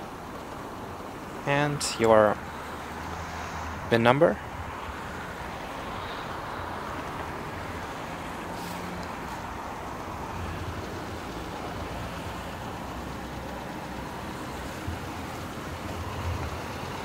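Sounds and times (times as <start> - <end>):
vehicle running hum: 0.0 - 17.0.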